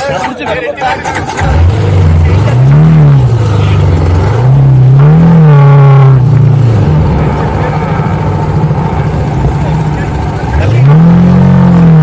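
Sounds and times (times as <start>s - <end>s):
vehicle engine revving: 1.0s - 12.0s.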